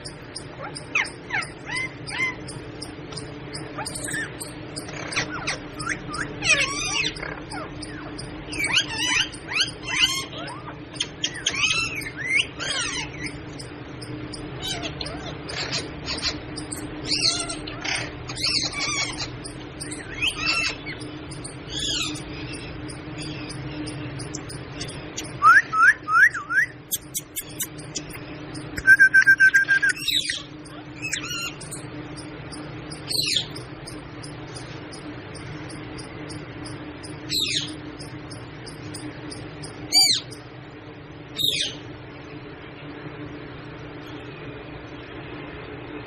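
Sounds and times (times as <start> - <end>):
steady low hum: 0.0 - 46.0
parrot squawking: 0.4 - 13.4, 14.3 - 28.2, 28.8 - 31.8, 32.5 - 38.2, 38.9 - 40.4.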